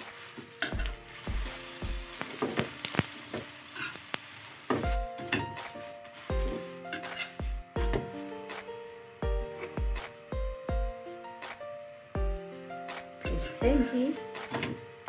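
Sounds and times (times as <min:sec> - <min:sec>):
background music: 0:00.0 - 0:15.0
ghee sizzling on a griddle: 0:00.0 - 0:15.0.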